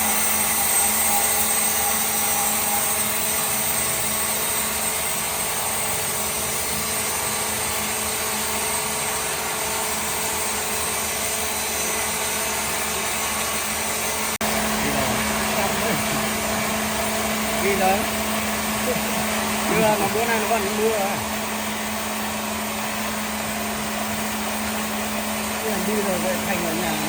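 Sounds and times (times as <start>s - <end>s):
machine motor humming: 0.0s - 27.0s.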